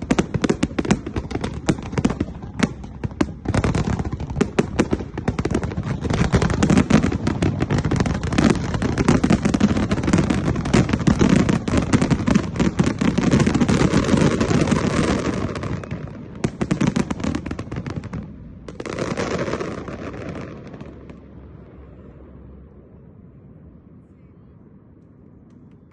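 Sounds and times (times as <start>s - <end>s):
fireworks bangs and crackles: 0.0s - 21.7s.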